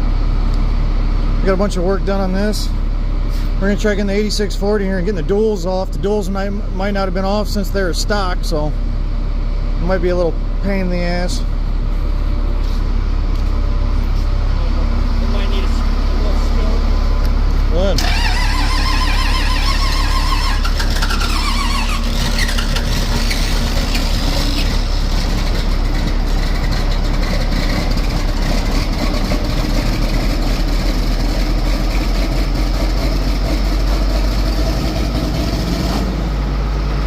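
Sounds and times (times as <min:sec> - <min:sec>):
diesel tractor engine starting: 0:00.0 - 0:37.0.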